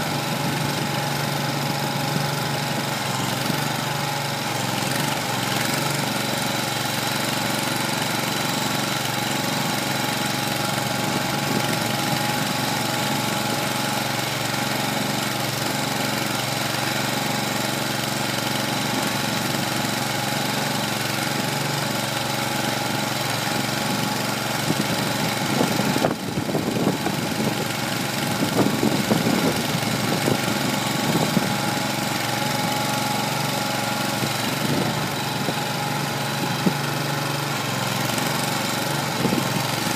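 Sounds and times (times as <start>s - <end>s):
gasoline engine running: 0.0s - 39.9s
mixer tub tumbling hay: 7.1s - 39.9s.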